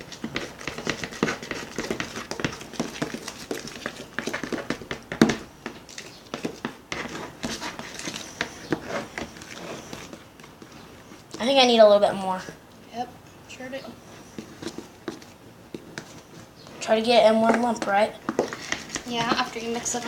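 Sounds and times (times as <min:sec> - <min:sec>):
slime squelching in a bowl: 0:00.0 - 0:12.6, 0:14.0 - 0:20.0.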